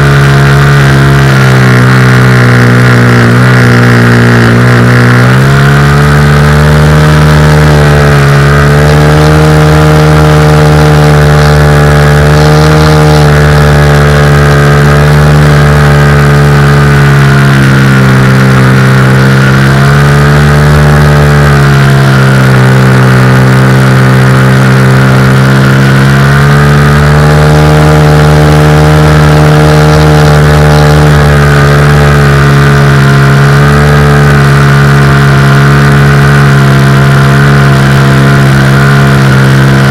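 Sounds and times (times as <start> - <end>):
model aircraft motor drone: 0.0 - 39.9.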